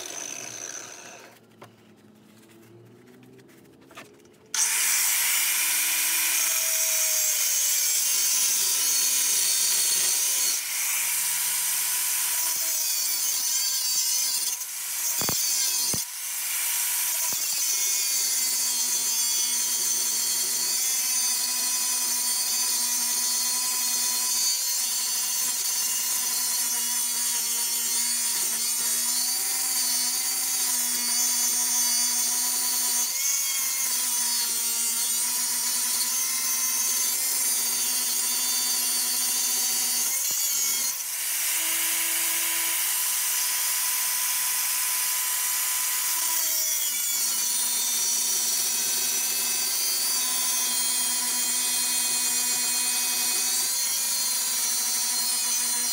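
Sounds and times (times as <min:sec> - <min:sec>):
angle grinder cutting metal: 0:00.0 - 0:01.4, 0:04.5 - 0:55.9.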